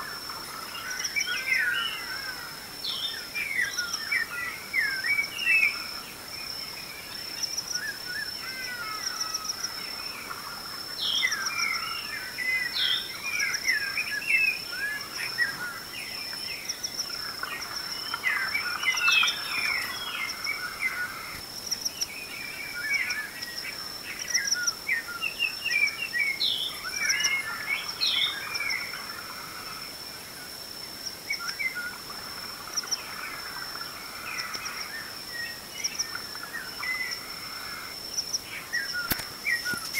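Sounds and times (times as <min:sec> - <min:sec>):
birds singing: 0:00.0 - 0:30.4, 0:31.2 - 0:39.9.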